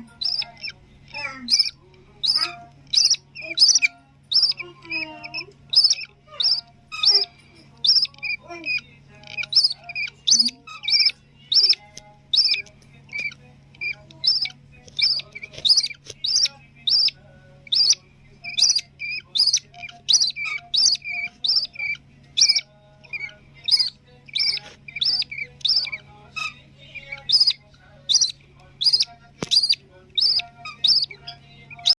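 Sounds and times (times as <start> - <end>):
bird chicks begging calls: 0.0 - 32.0
low steady hum: 0.0 - 32.0.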